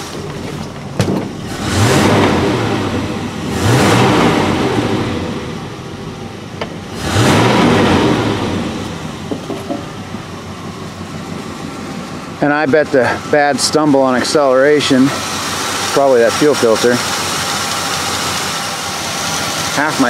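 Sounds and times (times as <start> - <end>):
pickup truck engine revving: 0.0 - 20.0.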